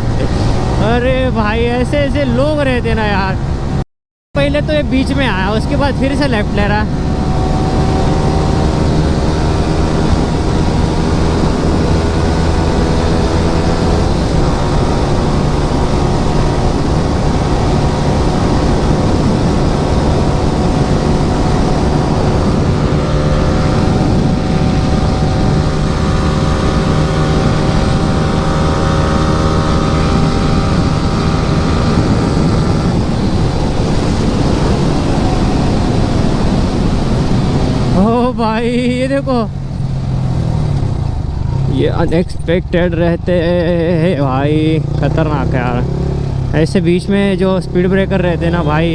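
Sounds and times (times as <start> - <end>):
motorcycle engine cruising: 0.0 - 3.8, 4.4 - 48.9.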